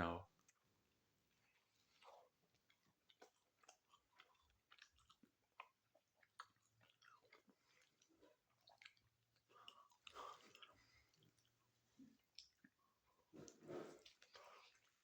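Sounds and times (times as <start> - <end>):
chewing sandwich: 0.3 - 15.0.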